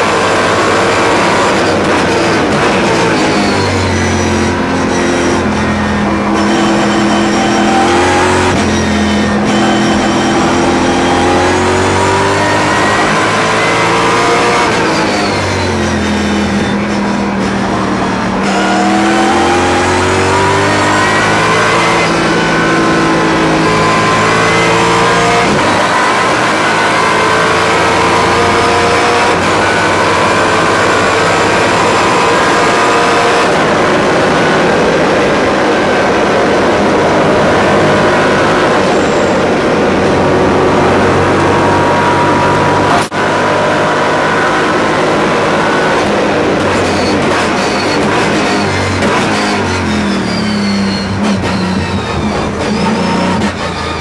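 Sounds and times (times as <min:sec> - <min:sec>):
race car engine from inside cabin: 0:00.0 - 0:54.0.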